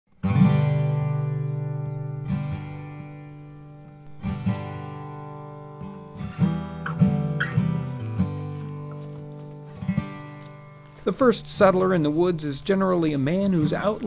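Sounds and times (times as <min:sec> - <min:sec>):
acoustic guitar music: 0:00.1 - 0:14.0.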